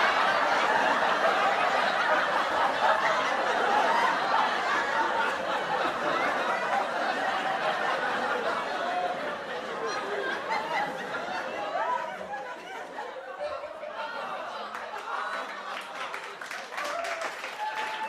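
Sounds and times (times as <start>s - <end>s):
crowd laughing and chattering: 0.0s - 18.0s.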